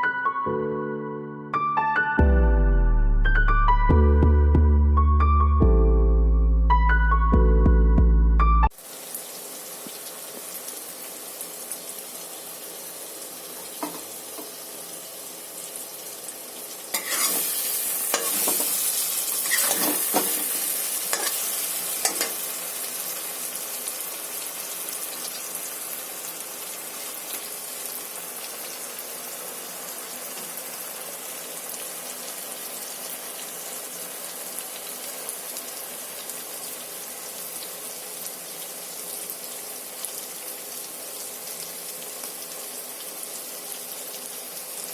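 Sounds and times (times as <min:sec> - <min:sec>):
food sizzling in hot oil: 0:08.7 - 0:44.9.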